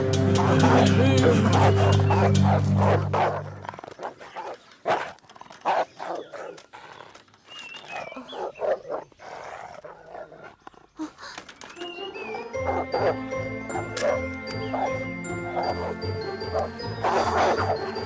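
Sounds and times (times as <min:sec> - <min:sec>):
dogs barking: 0:00.3 - 0:06.6, 0:07.9 - 0:10.6, 0:12.2 - 0:18.0.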